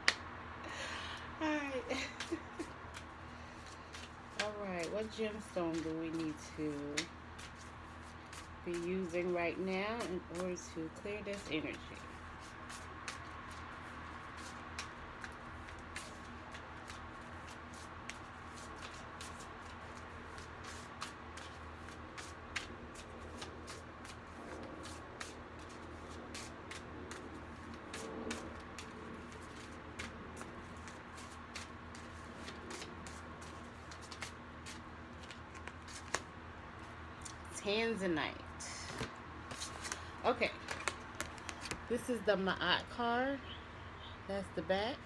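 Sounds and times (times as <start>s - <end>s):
cards being shuffled: 2.2s - 9.4s, 10.0s - 37.4s, 38.8s - 42.0s.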